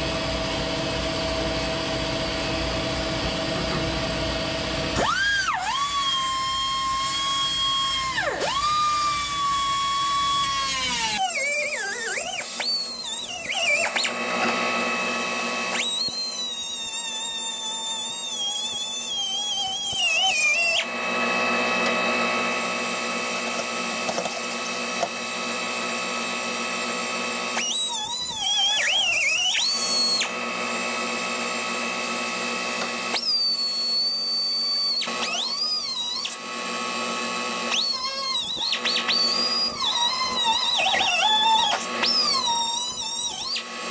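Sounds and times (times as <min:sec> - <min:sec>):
power drill whining into metal: 0:03.7 - 0:43.9
grinder on metal: 0:05.0 - 0:43.9.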